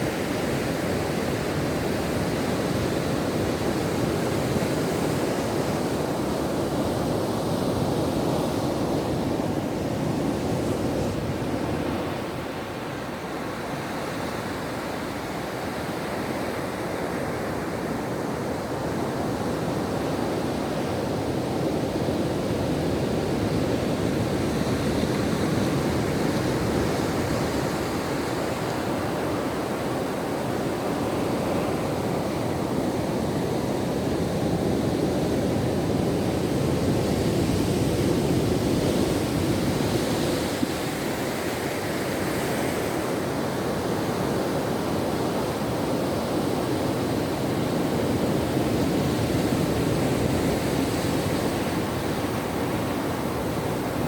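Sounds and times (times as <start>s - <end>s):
ocean waves breaking on a beach: 0.0s - 54.0s.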